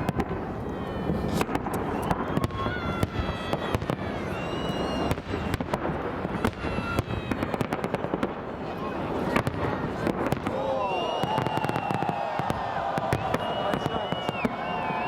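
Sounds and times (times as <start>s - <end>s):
fireworks bangs and cracks: 0.0s - 15.0s
rumble of fireworks bursts: 0.0s - 15.0s.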